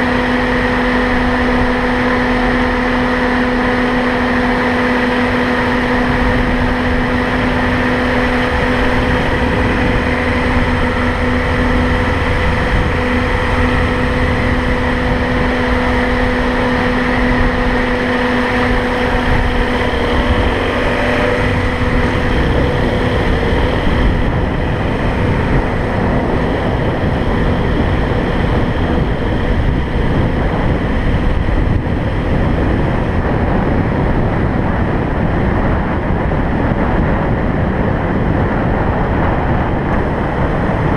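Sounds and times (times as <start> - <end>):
road and wind noise: 0.0 - 40.9
steady hum: 0.0 - 40.9.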